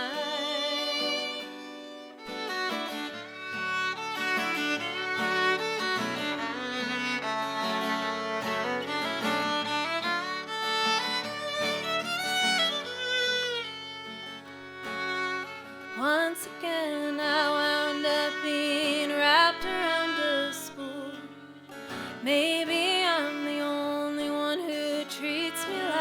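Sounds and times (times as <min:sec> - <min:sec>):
fiddle melody: 0:00.0 - 0:26.0
guitar accompaniment: 0:00.0 - 0:26.0.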